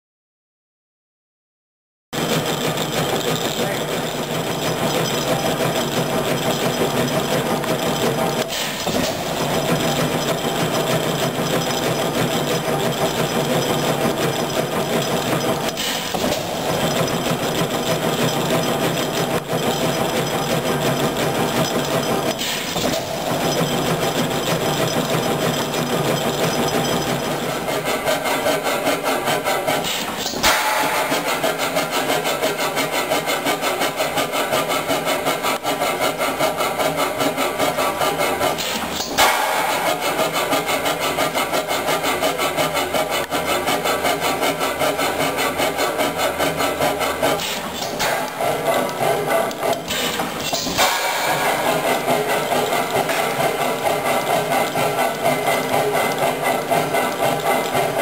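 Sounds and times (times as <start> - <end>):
engine mechanical clatter: 2.2 - 58.0.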